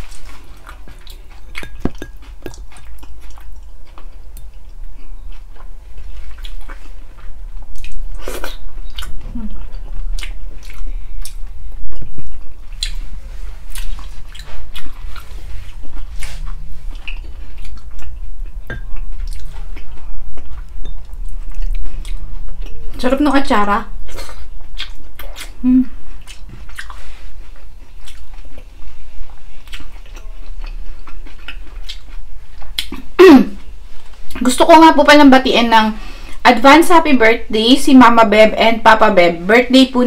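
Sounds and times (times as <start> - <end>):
wet chewing and lip smacking: 0.0 - 23.0, 24.0 - 33.1
low steady hum: 0.0 - 40.0.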